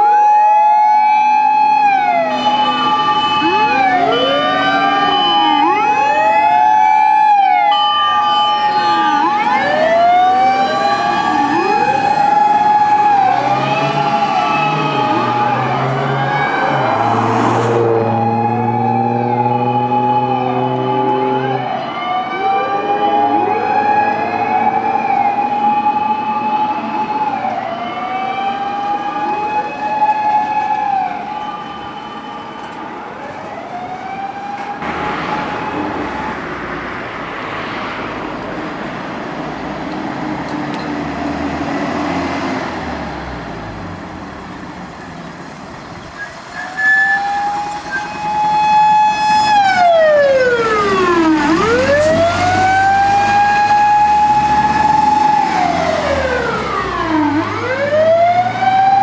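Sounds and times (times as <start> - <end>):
sirens wailing: 0.0 - 59.0
truck engine passing: 1.0 - 59.0.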